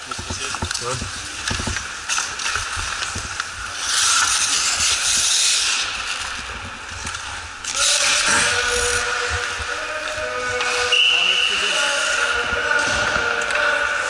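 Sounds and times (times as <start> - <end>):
skate blades scraping ice: 0.0 - 14.0.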